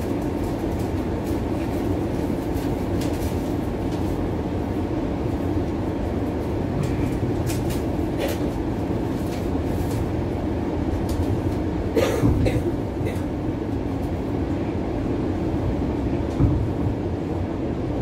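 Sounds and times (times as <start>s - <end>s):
streetcar rumbling along track: 0.0s - 18.0s.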